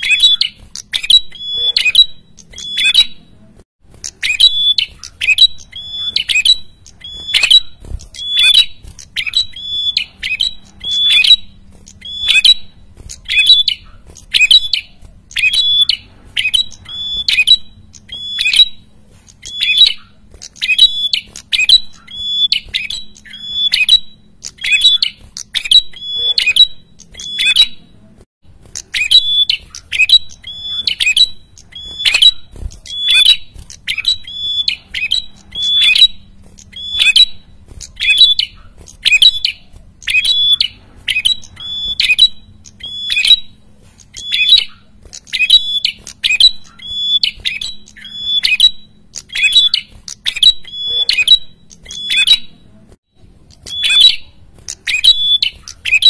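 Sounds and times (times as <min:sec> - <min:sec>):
bird calling harshly: 0:00.0 - 0:03.3, 0:03.9 - 0:27.9, 0:28.7 - 0:52.6, 0:53.5 - 0:56.0.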